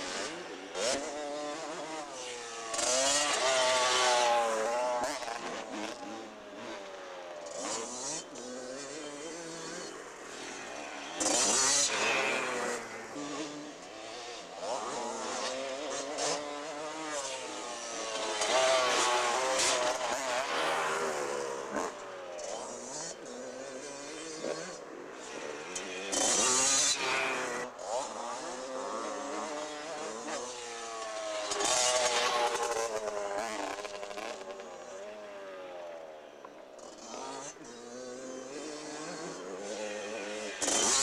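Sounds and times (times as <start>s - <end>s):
motocross bikes revving: 0.0s - 41.0s.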